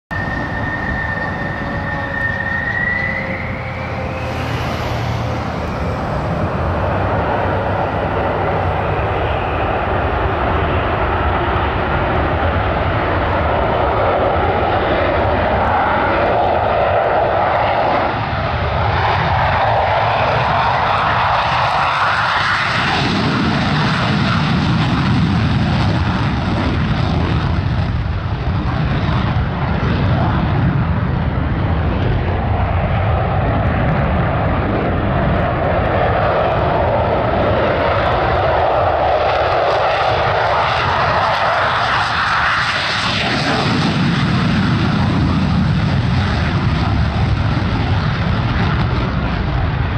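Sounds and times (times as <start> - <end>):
deep jet rumble: 0.1 - 49.9
jet turbine whine: 0.1 - 49.9
loud jet noise: 0.1 - 49.9.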